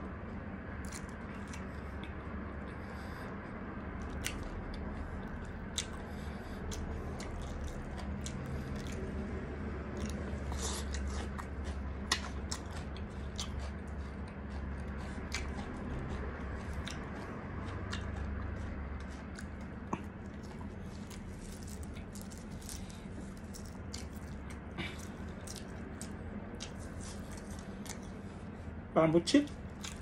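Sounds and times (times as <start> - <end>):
chewing fried chicken: 0.0 - 30.0
steady low hum: 0.0 - 30.0.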